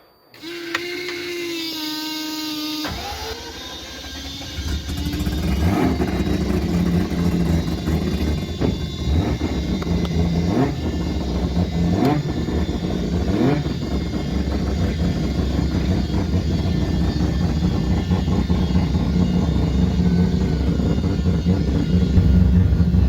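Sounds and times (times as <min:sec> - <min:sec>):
car engine revving: 0:02.8 - 0:23.0.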